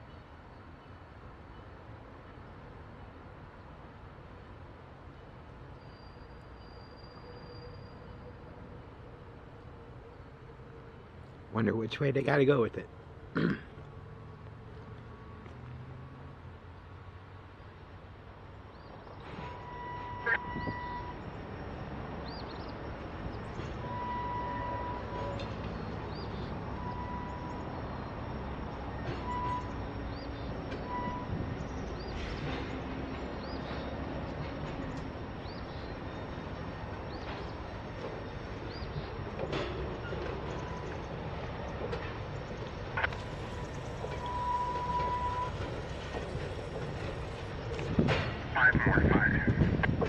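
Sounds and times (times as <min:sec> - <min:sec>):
freight cars rumbling on rails: 0:00.0 - 0:50.0.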